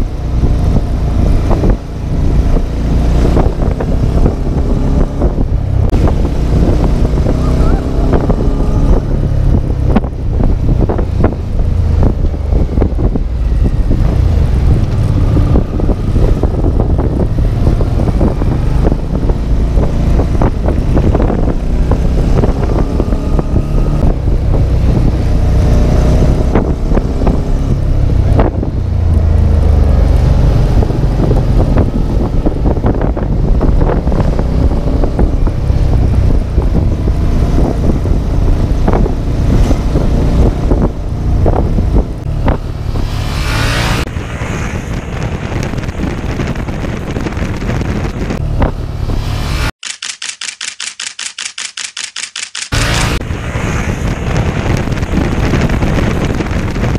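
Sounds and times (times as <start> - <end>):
wind buffeting microphone: 0.0 - 49.7, 52.7 - 56.9
motorcycle engine accelerating: 0.0 - 49.8, 52.5 - 56.9.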